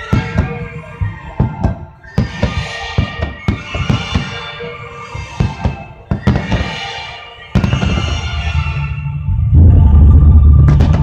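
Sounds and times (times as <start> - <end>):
music playing: 0.0 - 11.0.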